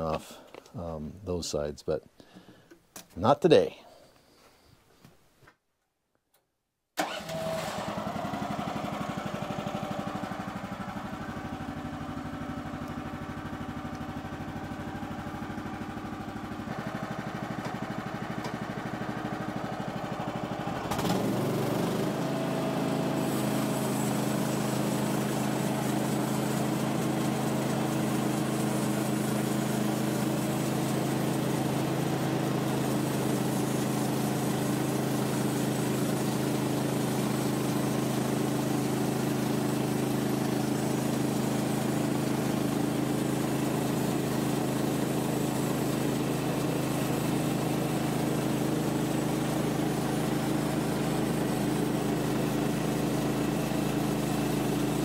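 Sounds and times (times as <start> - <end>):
sawmill gas engine running: 7.0 - 55.0.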